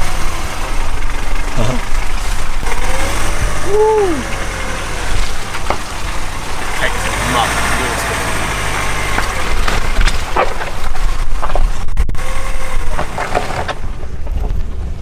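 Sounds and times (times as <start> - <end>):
car knocking and clattering: 0.0 - 3.6, 4.2 - 15.0
car engine and tyre rumble: 0.0 - 15.0.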